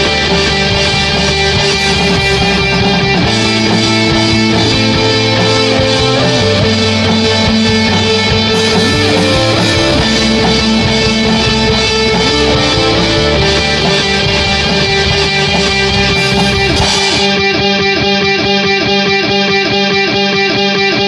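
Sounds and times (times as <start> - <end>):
bass line: 0.0 - 20.2
distorted electric guitar chords: 0.0 - 21.0.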